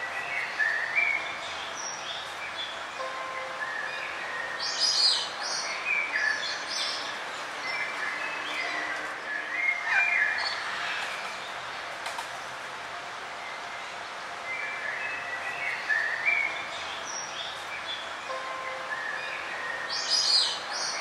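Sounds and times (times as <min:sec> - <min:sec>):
steady background hiss: 0:00.0 - 0:21.0
birds chirping and calling: 0:00.2 - 0:12.2, 0:14.6 - 0:21.0.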